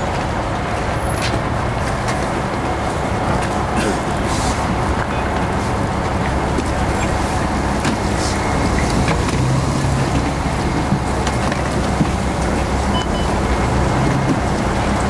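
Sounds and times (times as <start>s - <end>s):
bus engine humming: 0.0s - 15.0s
continuous noise: 0.0s - 15.0s.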